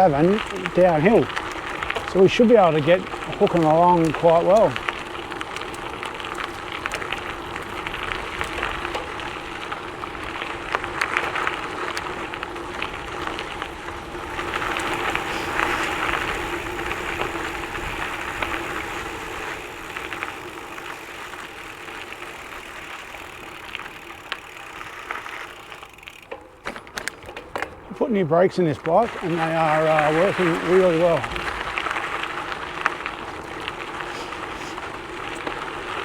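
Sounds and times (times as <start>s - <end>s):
tyres crunching over gravel: 0.0s - 36.0s.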